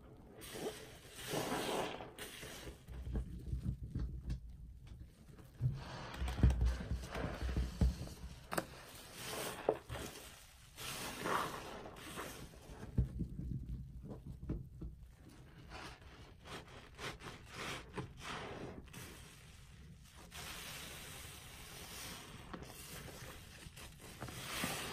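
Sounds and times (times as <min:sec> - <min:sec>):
sponge squelching in soapy water: 0:00.0 - 0:04.0, 0:05.4 - 0:14.3, 0:15.1 - 0:24.9.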